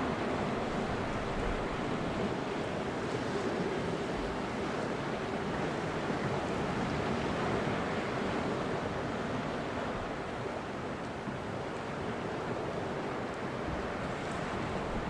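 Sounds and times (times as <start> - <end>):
ocean waves washing ashore: 0.0 - 15.0.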